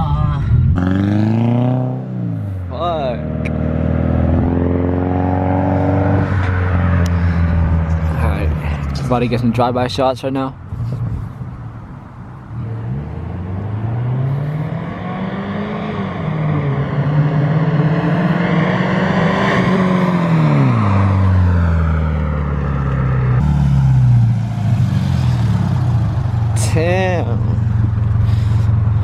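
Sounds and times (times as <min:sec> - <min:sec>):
loud car engine accelerating past: 0:00.4 - 0:09.1, 0:12.5 - 0:29.0.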